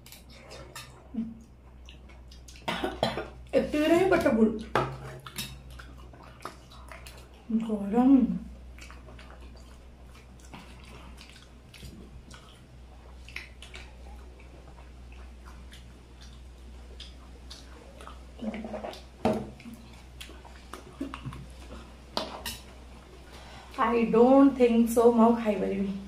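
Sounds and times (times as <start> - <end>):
wet chewing and crunching: 0.0 - 3.6, 4.5 - 7.8, 8.4 - 23.8.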